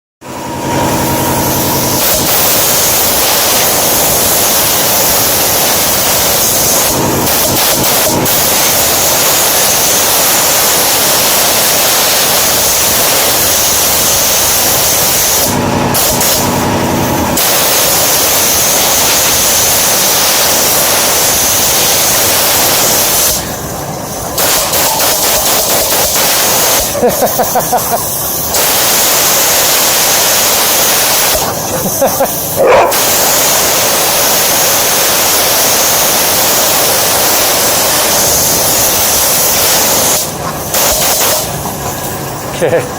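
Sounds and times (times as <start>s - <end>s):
compressed air hissing from hose: 0.9s - 16.6s, 17.4s - 42.4s.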